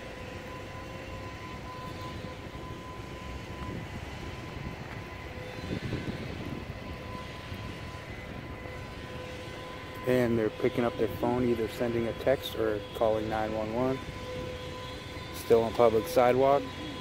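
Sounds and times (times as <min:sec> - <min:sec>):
steady mechanical drone: 0:00.0 - 0:17.0.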